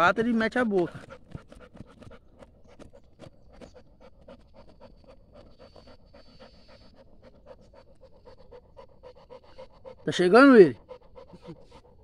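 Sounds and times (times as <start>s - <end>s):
dog digging hard dirt: 0.0s - 12.0s
dog panting: 0.0s - 12.0s.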